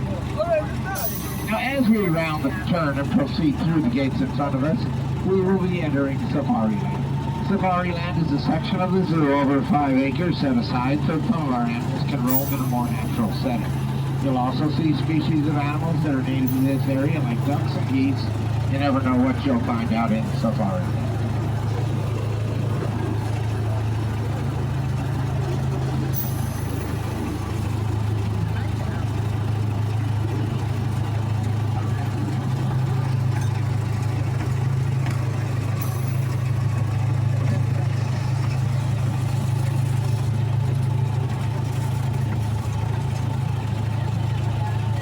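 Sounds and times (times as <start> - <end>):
train engine humming: 0.0 - 45.0.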